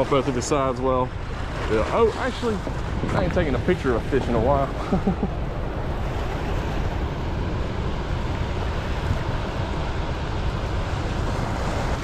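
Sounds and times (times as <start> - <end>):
floodwater rushing through spillway: 0.0 - 12.0.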